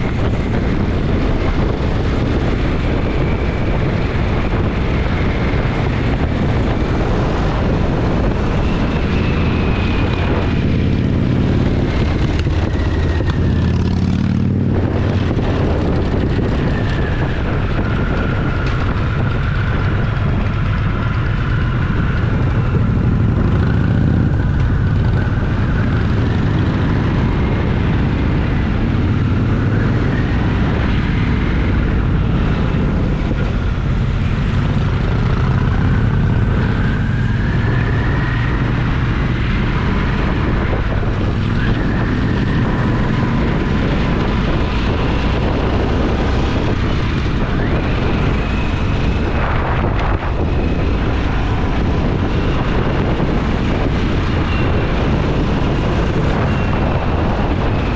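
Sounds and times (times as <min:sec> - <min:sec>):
motorcycle engine running: 0:00.0 - 0:57.9
wind rush: 0:00.0 - 0:57.9.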